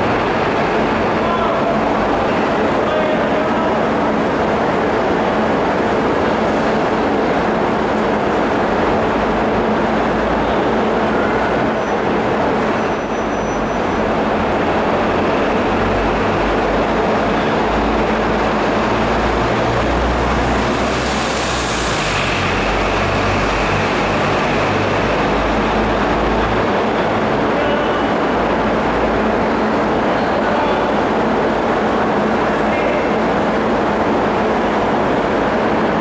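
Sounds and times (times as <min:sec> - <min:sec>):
crowded hall background din: 0:00.0 - 0:36.0.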